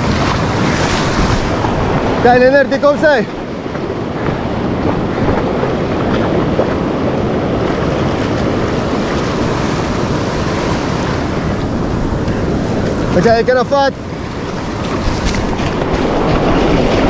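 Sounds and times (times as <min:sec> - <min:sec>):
waves washing in shallow surf: 0:00.0 - 0:17.0
wind buffeting microphone: 0:00.0 - 0:17.0.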